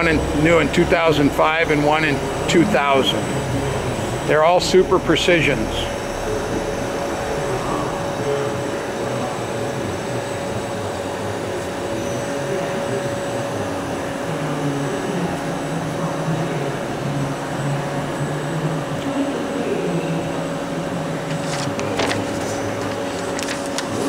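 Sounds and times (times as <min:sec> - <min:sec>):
lathe humming and whining: 0:00.0 - 0:24.0.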